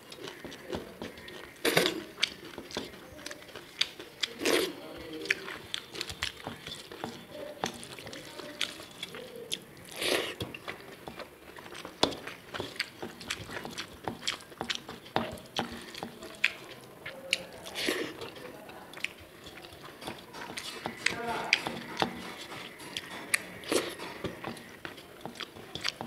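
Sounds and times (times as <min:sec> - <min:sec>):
fingers mixing rice on steel plate: 0:00.0 - 0:26.0
wet chewing clicks and smacks: 0:00.0 - 0:26.0.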